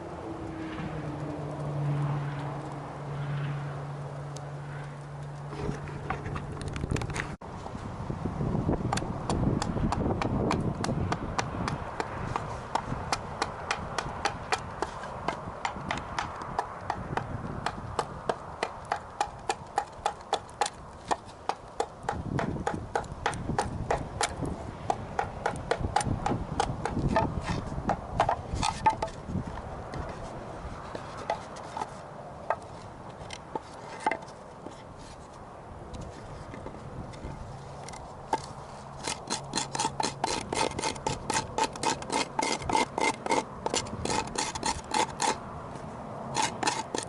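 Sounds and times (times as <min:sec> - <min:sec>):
hand tool scraping wood: 0:05.4 - 0:07.7, 0:08.8 - 0:35.4, 0:36.0 - 0:47.0.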